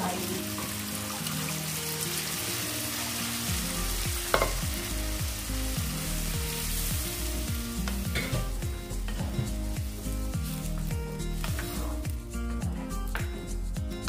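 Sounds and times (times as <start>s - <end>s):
lentils sizzling in pan: 0.0s - 12.5s.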